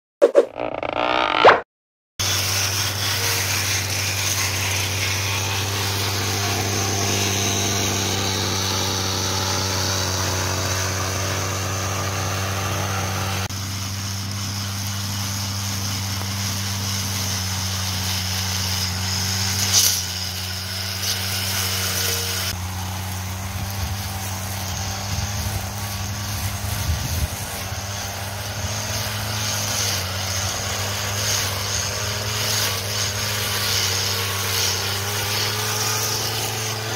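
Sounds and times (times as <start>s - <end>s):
brush cutter engine running: 2.2s - 36.9s.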